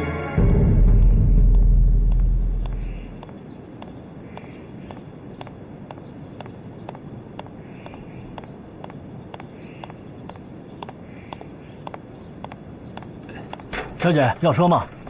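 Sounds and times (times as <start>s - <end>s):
heeled shoes clicking on pavement: 0.9s - 14.1s.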